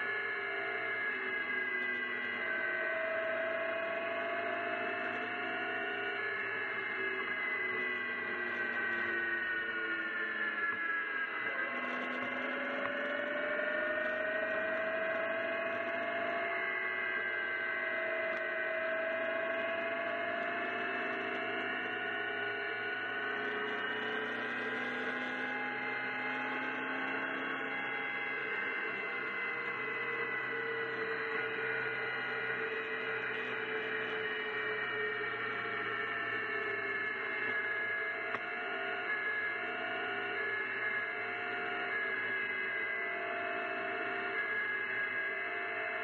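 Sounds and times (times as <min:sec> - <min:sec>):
car engine drone: 0:00.0 - 0:46.0.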